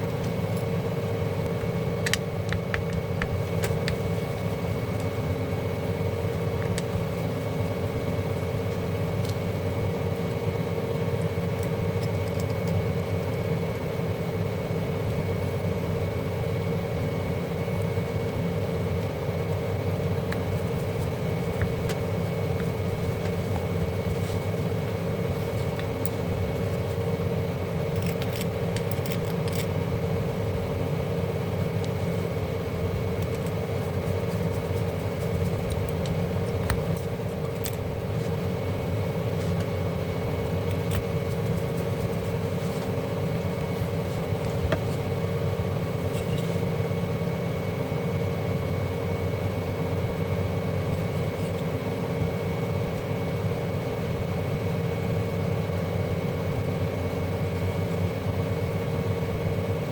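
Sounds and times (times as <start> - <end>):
machine hum with whine: 0.0 - 59.9.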